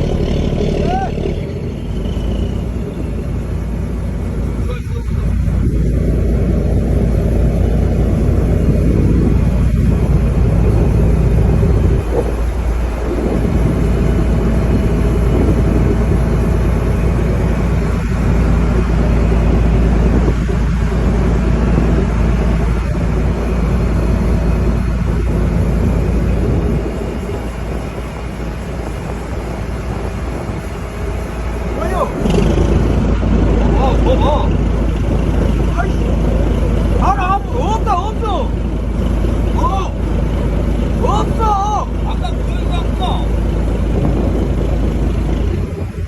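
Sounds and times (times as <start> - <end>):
boat diesel engine running: 0.0 - 46.0.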